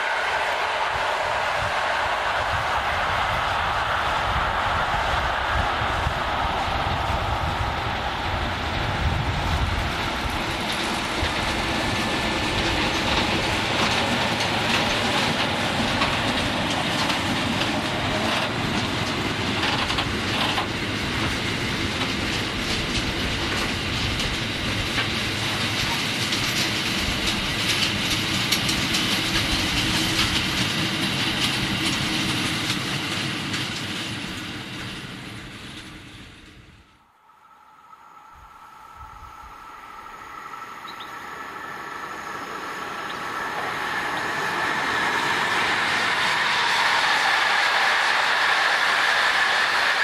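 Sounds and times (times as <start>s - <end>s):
train wheels rolling on rails: 0.0s - 50.0s.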